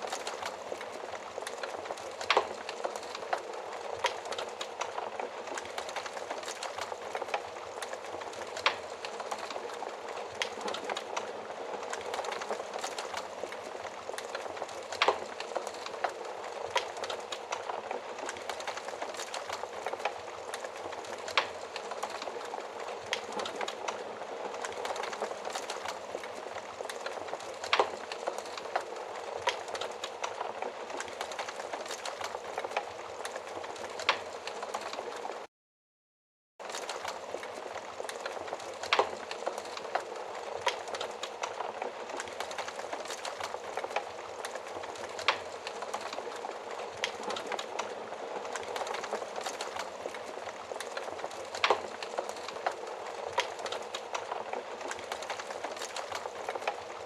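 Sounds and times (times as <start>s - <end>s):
wood fire crackling: 0.0s - 35.5s, 36.6s - 57.0s.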